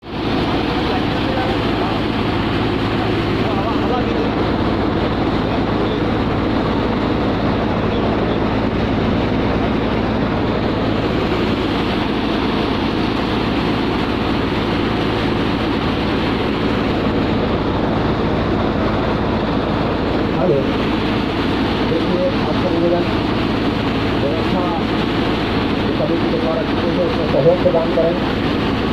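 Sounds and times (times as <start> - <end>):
machine running steadily: 0.0 - 28.9.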